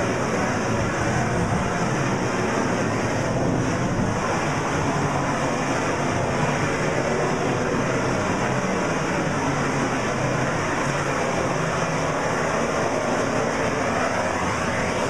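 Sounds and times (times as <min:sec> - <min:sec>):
heat gun flame rushing: 0:00.0 - 0:15.0.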